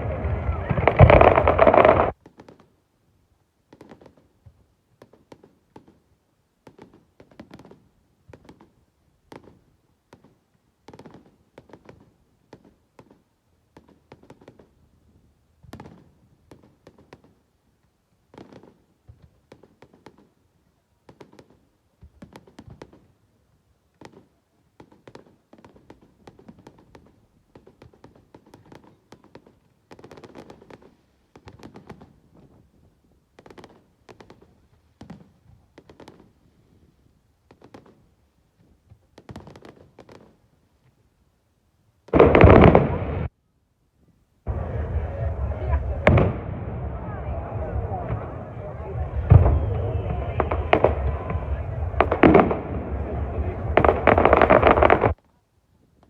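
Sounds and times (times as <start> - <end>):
faint fireworks bangs and crackling: 0.0 - 56.0.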